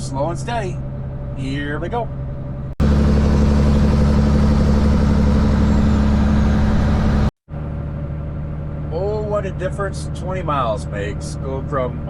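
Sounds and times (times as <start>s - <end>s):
diesel truck engine drone: 0.0s - 12.0s
road and tyre noise: 0.0s - 12.0s.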